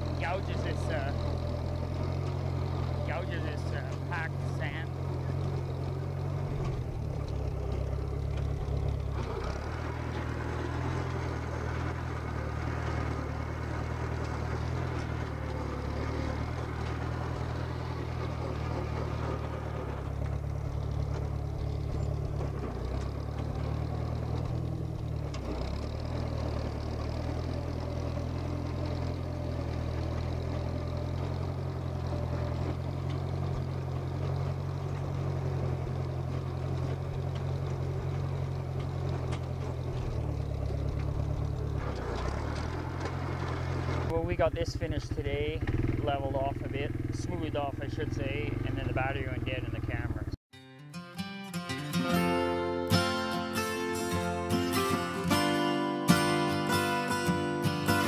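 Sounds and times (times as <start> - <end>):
bulldozer engine running: 0.0 - 50.4, 51.9 - 58.0.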